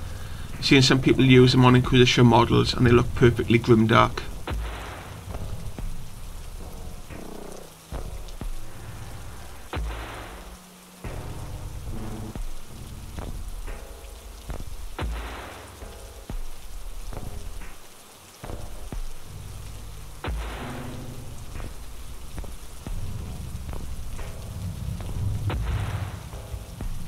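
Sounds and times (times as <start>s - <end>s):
rain-like hiss: 0.0s - 27.0s
low thunder-like rumbles: 2.6s - 17.7s, 18.5s - 27.0s.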